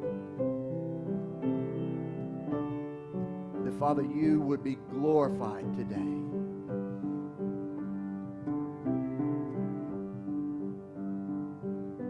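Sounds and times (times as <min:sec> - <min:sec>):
slow sustained keyboard chords: 0:00.0 - 0:11.0.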